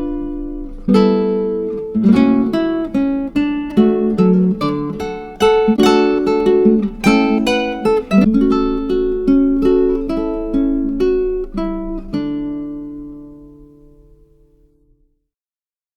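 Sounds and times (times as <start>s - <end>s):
acoustic guitar strumming: 0.0s - 14.8s.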